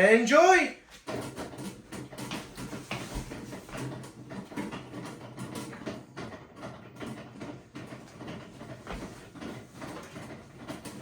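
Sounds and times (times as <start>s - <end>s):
washing machine motor hum: 0.0s - 11.0s
washing machine clicks and knocks: 0.9s - 11.0s.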